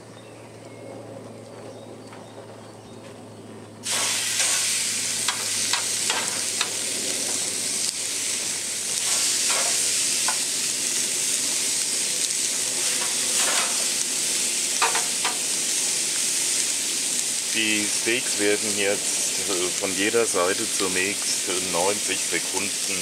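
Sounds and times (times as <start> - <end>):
meat sizzling on a grill: 3.8 - 23.0.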